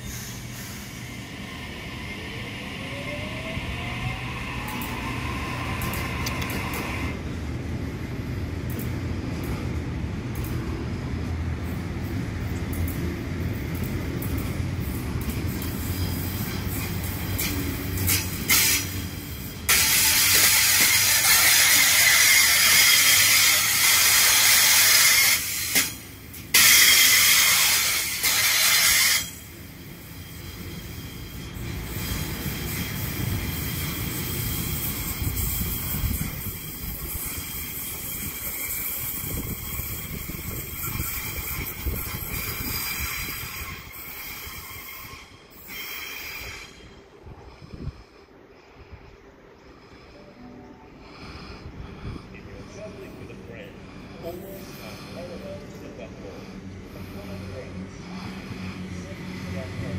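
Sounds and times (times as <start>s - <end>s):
train wheels rumbling: 0.0s - 50.3s, 51.0s - 59.9s.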